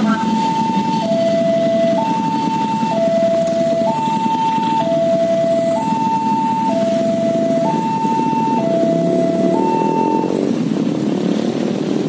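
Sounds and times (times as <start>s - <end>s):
two-tone electronic warning signal: 0.0s - 10.4s
train rumble pulling away: 0.0s - 12.0s.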